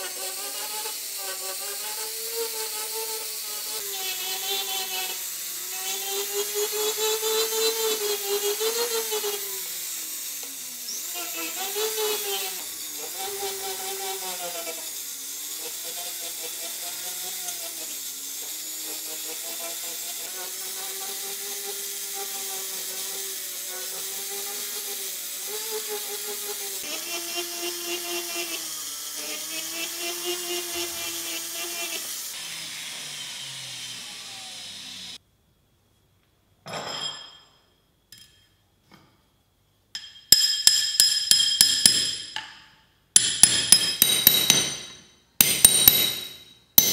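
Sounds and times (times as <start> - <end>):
engraving handpiece whining: 0.0 - 35.2, 43.2 - 46.9.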